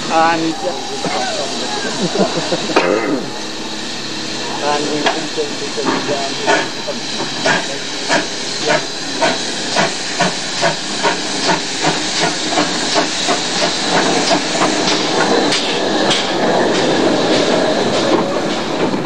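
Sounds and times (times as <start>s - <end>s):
steady hiss of steam: 0.0s - 19.0s
steam locomotive exhaust beats: 0.0s - 19.0s
train rolling noise: 0.0s - 19.0s.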